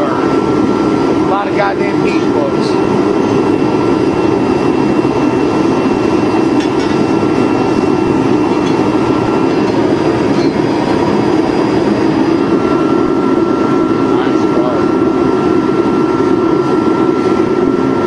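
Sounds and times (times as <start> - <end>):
furnace burner roaring: 0.0 - 18.0
thin high whine: 0.0 - 18.0.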